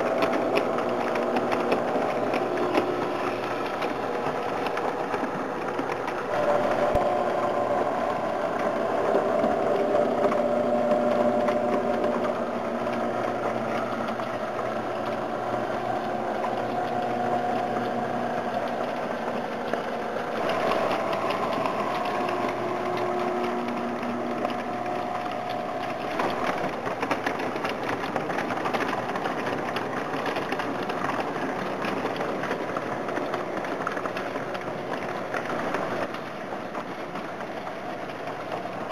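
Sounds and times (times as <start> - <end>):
model train motors humming: 0.0 - 38.9
wheels clicking over track: 0.0 - 38.9.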